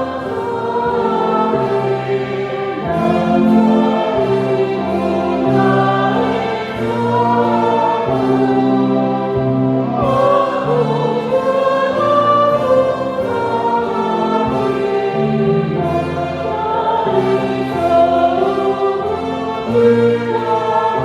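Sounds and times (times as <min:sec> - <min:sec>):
choir singing a hymn: 0:00.0 - 0:21.0
instrumental accompaniment: 0:00.0 - 0:21.0.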